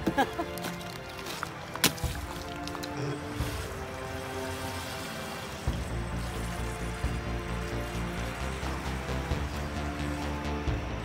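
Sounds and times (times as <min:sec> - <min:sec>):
water splashing and churning: 0:00.0 - 0:10.9
background music with held notes: 0:00.0 - 0:11.0.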